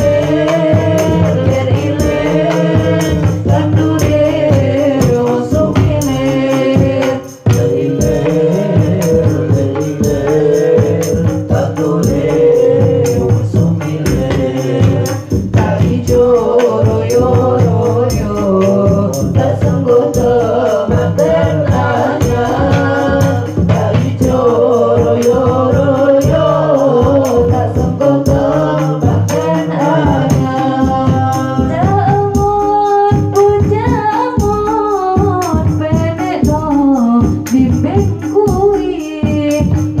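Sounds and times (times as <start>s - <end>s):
woman singing into microphone: 0.0s - 12.1s, 13.0s - 40.0s
frame drums and hand drums: 0.0s - 40.0s.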